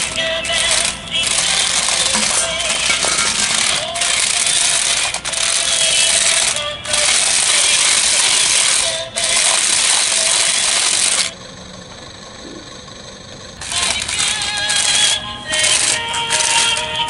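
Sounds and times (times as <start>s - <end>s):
toy car motor rattling whir: 0.0s - 17.0s.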